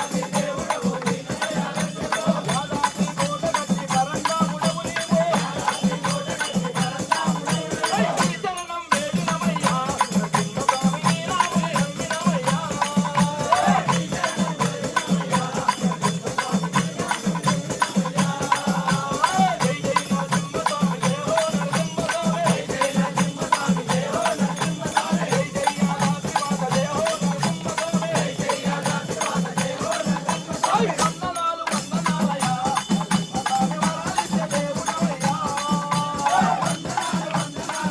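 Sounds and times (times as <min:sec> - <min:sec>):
jingling hand percussion: 0:00.0 - 0:37.9
voices singing a chant-like melody: 0:00.0 - 0:37.9.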